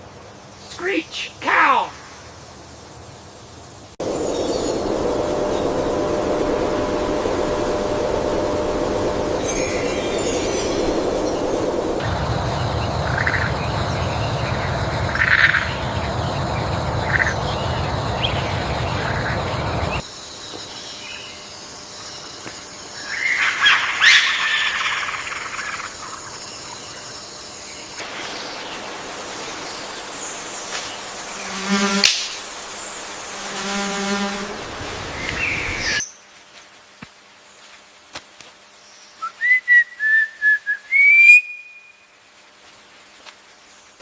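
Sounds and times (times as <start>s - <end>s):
outdoor background noise: 0.0s - 44.0s.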